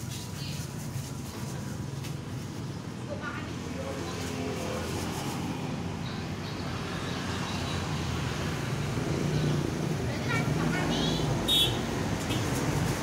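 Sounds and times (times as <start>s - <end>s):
vehicles passing on road: 0.0s - 13.0s.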